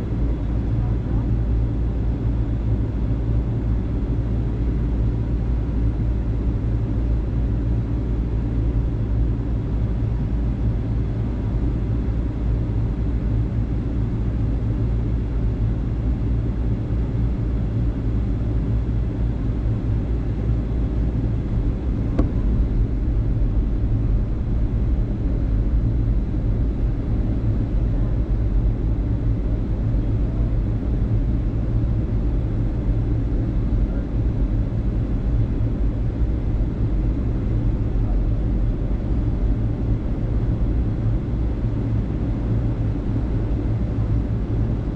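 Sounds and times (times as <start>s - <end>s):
airliner engine rumble: 0.0s - 44.9s.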